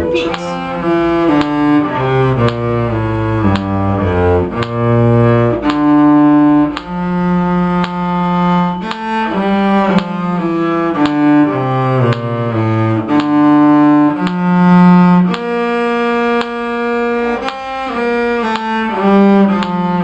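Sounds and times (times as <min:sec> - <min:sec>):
cello playing bowed melody: 0:00.0 - 0:20.0.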